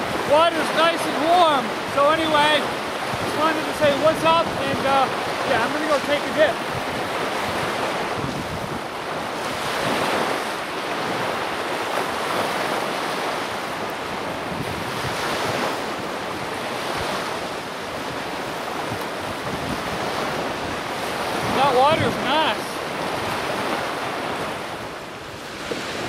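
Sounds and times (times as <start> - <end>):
small waves breaking on sand: 0.0 - 26.0
wind rumbling on microphone: 0.0 - 26.0.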